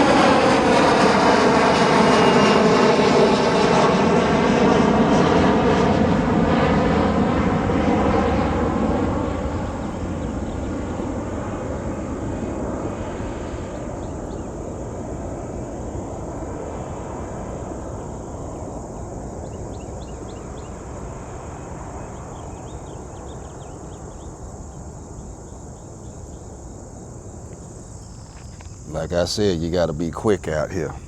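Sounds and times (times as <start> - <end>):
jet engine roar: 0.0 - 24.6, 28.4 - 31.0
insects chirping: 4.8 - 31.0.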